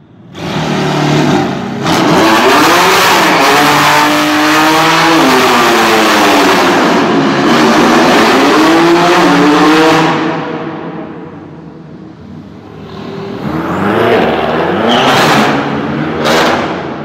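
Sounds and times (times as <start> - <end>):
supercar engine accelerating: 0.3 - 11.2, 12.6 - 17.0.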